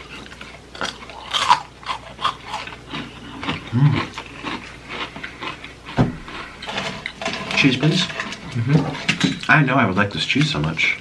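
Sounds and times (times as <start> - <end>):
crunchy chewing: 0.0 - 9.6.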